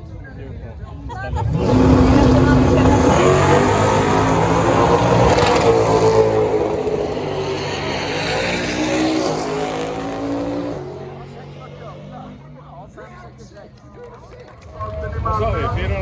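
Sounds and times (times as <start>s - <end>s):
racing car engine revving: 0.4s - 13.7s.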